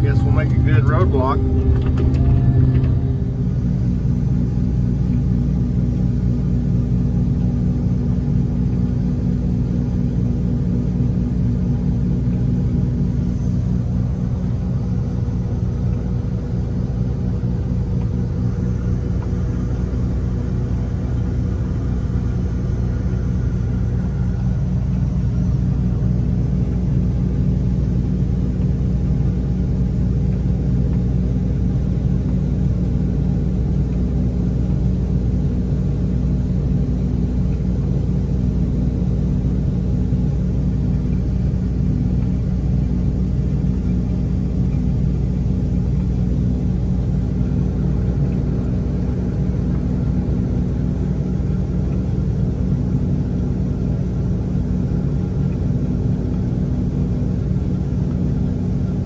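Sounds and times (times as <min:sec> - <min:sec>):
combine engine and auger drone: 0:00.0 - 0:59.0.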